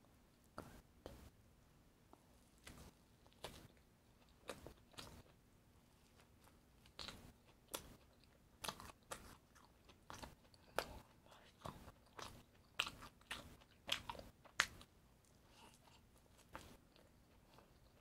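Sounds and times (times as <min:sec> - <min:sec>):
person chewing crunchy food: 0:02.7 - 0:05.4, 0:06.1 - 0:18.0.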